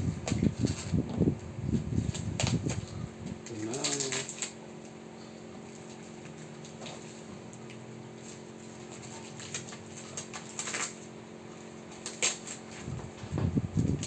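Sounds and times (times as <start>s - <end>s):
plastic packaging crinkling: 0.0s - 1.0s, 1.7s - 13.2s
steady low hum: 0.0s - 14.0s.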